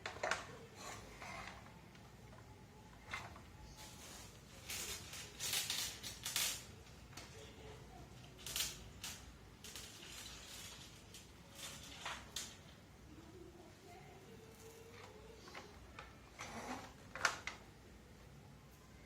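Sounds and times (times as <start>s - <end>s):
scrapes and clicks of fan parts: 0.0s - 12.8s, 14.4s - 17.6s.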